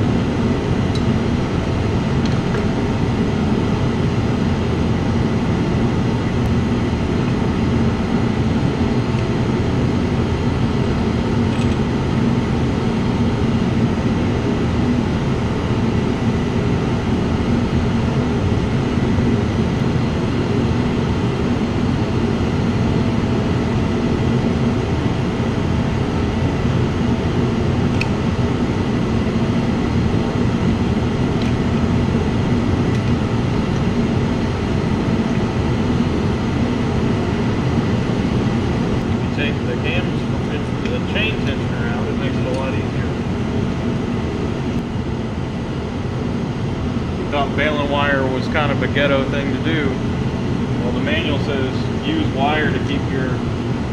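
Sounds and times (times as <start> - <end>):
mechanical hum and rush: 0.0 - 53.9.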